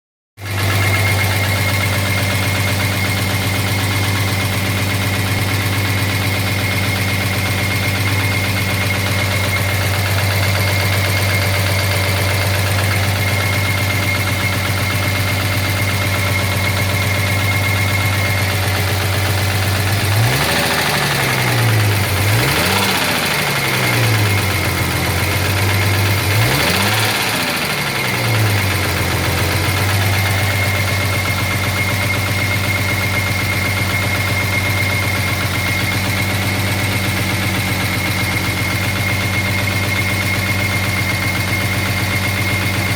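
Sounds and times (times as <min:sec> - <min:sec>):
engine revving: 0:00.4 - 0:42.9.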